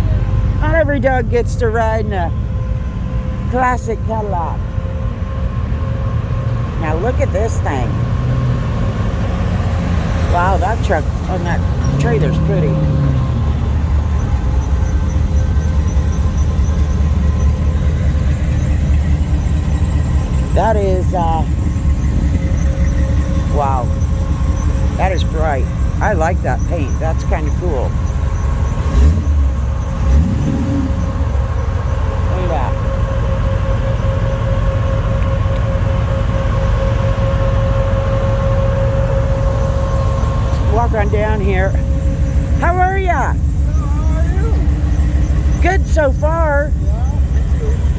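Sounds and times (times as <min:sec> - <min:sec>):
constant whine: 0:00.0 - 0:47.9
vehicle engine rumble passing: 0:00.0 - 0:47.9.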